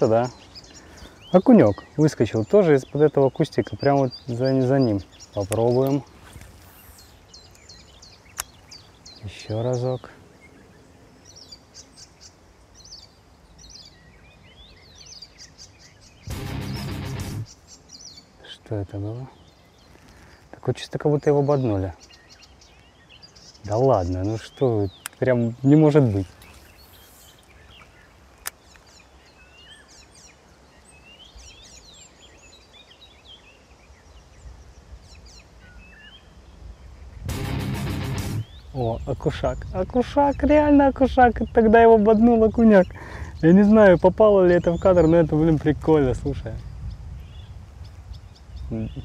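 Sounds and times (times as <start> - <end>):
faint outdoor background noise: 0.0 - 49.0
small birds chirping: 0.0 - 49.0.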